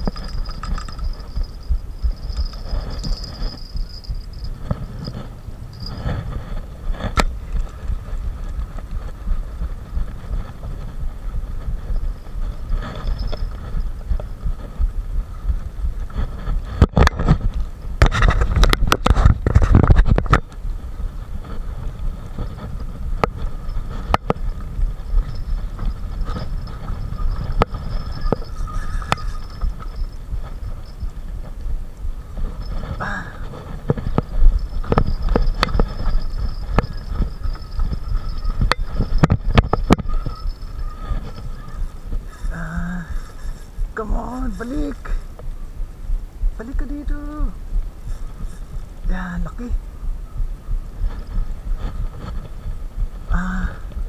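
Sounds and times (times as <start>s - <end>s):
low rumble of handling: 0.0s - 54.0s.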